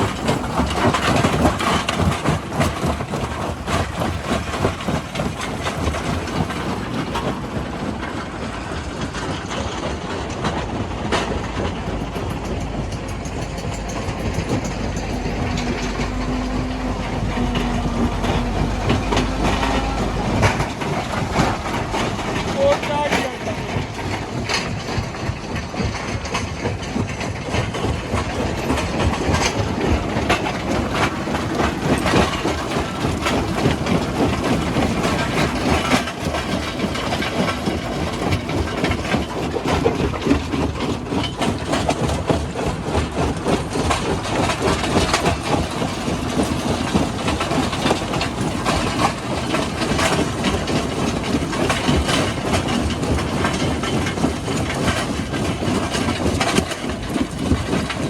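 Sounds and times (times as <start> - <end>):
engine-like din: 0.0 - 58.0.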